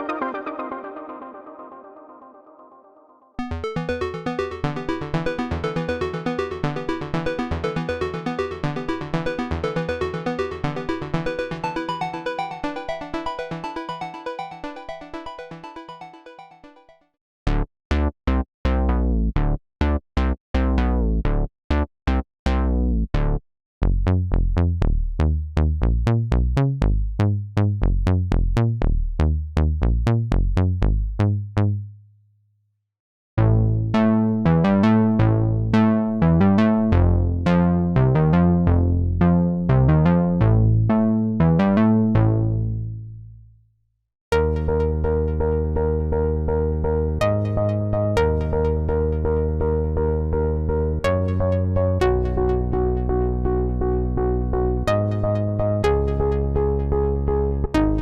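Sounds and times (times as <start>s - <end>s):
synthesizer bass and arpeggio notes: 0.0s - 31.8s, 33.4s - 43.4s, 44.3s - 58.0s.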